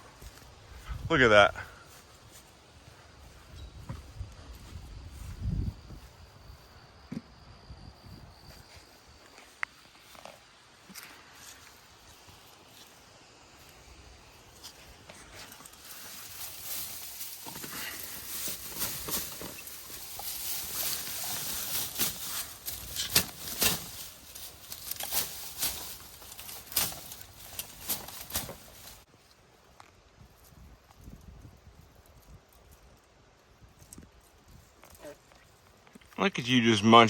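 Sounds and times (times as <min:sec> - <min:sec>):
leaves and vines rustling: 0:00.0 - 0:06.9, 0:08.0 - 0:37.0.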